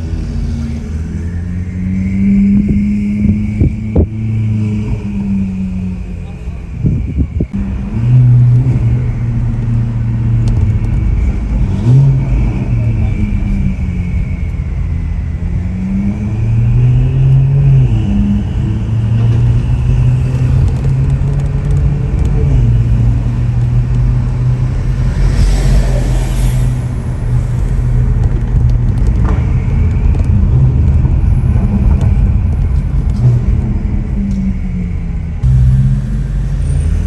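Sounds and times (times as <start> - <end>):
sports car engine driving: 0.0 - 37.0.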